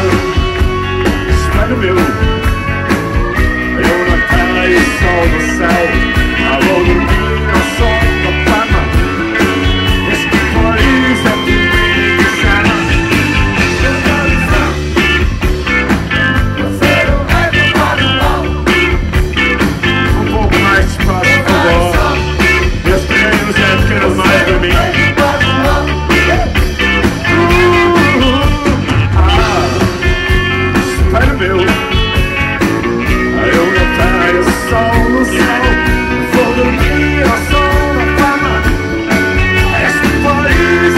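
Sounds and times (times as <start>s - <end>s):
live rock band playing loudly: 0.0s - 40.9s.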